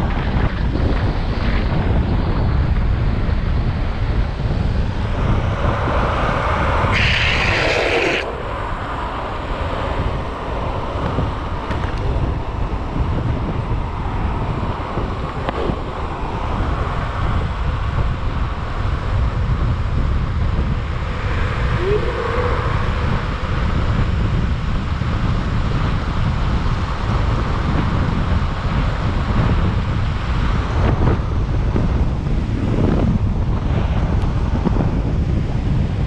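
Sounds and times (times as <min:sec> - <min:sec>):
longboard wheels rumbling on asphalt: 0:00.0 - 0:36.0
wind buffeting microphone: 0:00.0 - 0:36.0.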